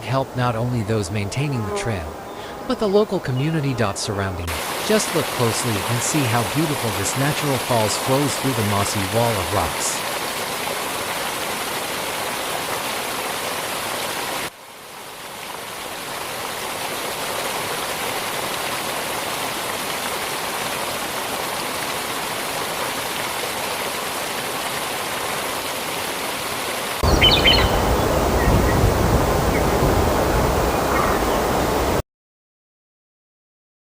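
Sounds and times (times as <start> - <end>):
small waterfall rushing: 0.0 - 32.0.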